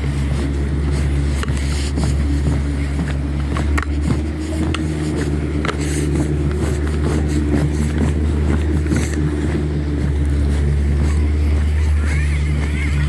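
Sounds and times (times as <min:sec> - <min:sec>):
low rumble: 0:00.0 - 0:13.0
steady engine hum: 0:00.0 - 0:13.0.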